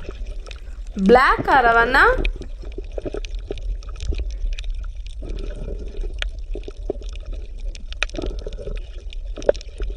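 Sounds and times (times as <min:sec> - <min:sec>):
small irregular clicks: 0:00.0 - 0:09.9
underwater low rumble: 0:00.0 - 0:09.9
water bubbling: 0:00.0 - 0:09.9.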